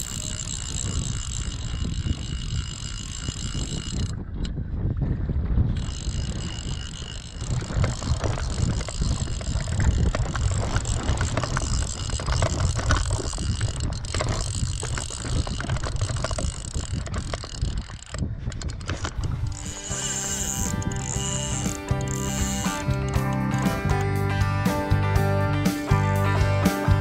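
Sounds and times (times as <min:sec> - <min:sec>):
fishing reel drag ratcheting: 0:00.0 - 0:04.6, 0:05.7 - 0:25.0.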